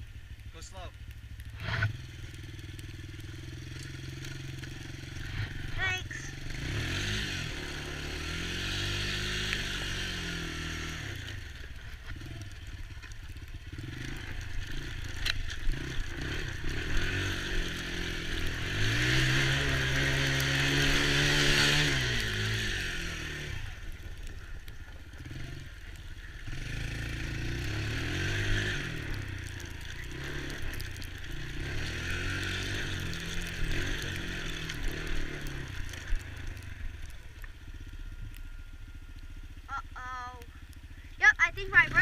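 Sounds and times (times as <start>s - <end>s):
small atv engine: 0.0s - 42.0s.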